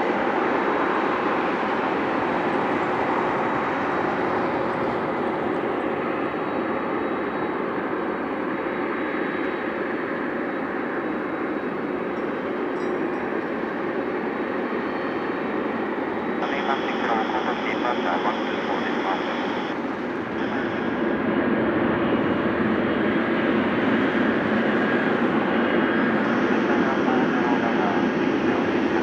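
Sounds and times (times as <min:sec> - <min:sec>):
jet engines at takeoff thrust: 0:00.0 - 0:29.0.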